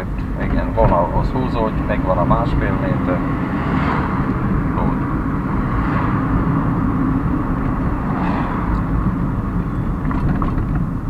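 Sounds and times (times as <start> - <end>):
car engine: 0.0 - 11.0
wind noise: 0.0 - 11.0.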